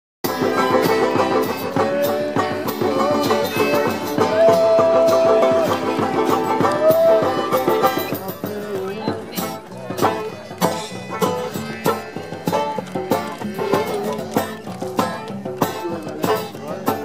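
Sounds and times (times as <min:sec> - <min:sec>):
lively plucked-string music: 0:00.2 - 0:17.0.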